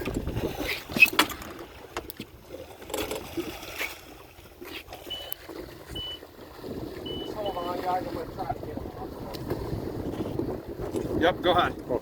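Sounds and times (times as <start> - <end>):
water around boat: 0.0 - 12.0
water splashes: 0.0 - 12.0
wind: 0.0 - 12.0.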